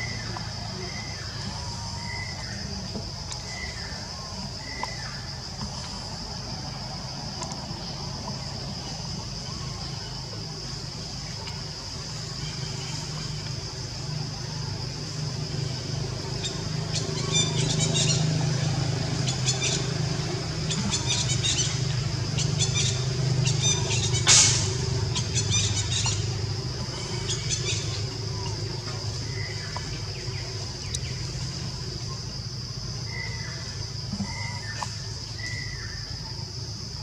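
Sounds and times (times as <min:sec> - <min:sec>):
loud hissing rustle: 0:00.0 - 0:36.2
high insect drone: 0:00.0 - 0:37.0
low vehicle engine hum: 0:00.0 - 0:37.0.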